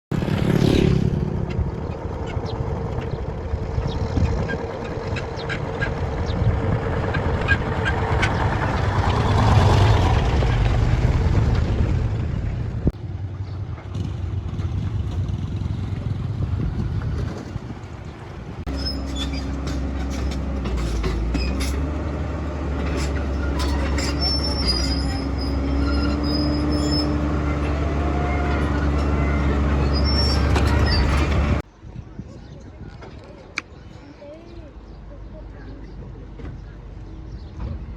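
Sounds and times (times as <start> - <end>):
bulldozer diesel engine running: 1.1 - 31.7.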